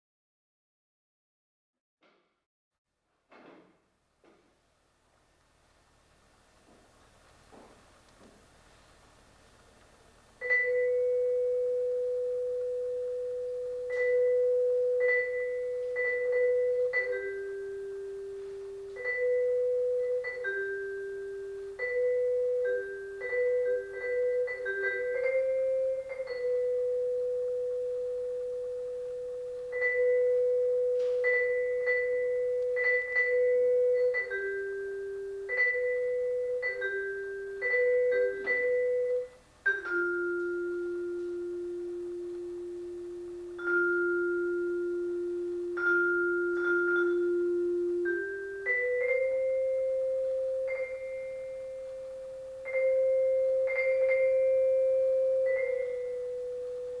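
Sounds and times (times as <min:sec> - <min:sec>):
vibraphone melody: 0:10.4 - 0:57.0.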